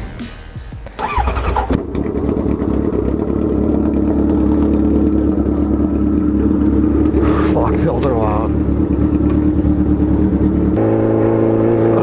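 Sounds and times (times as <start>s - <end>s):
motorcycle engine idling: 1.0s - 10.8s.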